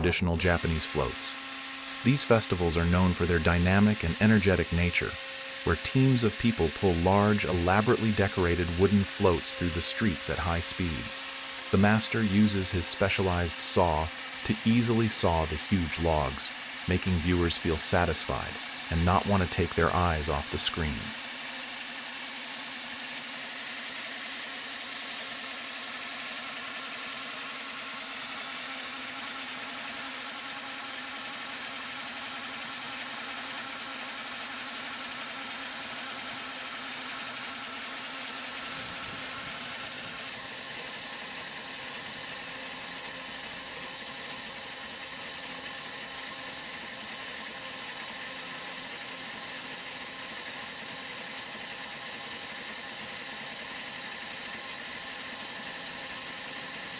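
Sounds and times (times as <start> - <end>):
powered saw cutting log: 0.0 - 56.9.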